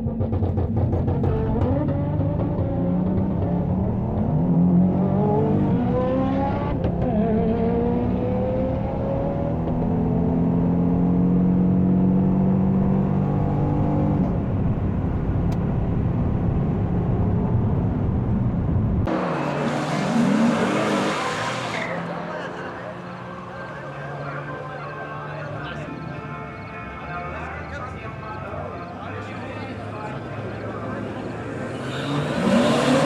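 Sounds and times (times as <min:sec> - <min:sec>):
car engine accelerating: 0:00.0 - 0:25.9, 0:28.4 - 0:33.0.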